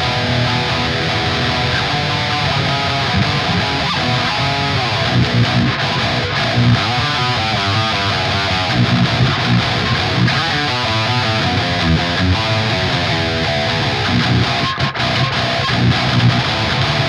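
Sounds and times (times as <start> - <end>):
distorted electric guitar riffs: 0.0 - 17.0.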